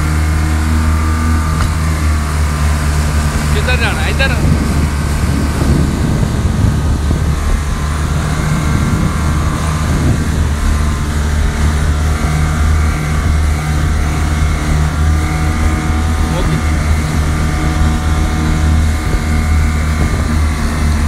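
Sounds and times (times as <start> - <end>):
jet ski engines droning: 0.0 - 21.0
rushing water and spray: 0.0 - 21.0.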